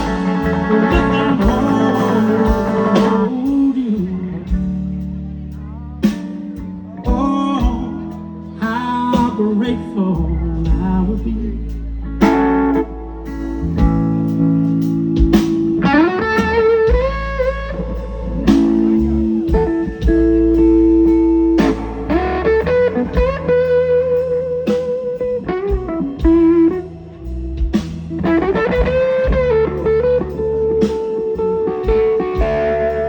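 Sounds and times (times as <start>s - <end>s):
bass guitar: 0.0s - 33.0s
drums: 0.0s - 33.0s
electric guitar lead with bent notes: 0.0s - 33.0s.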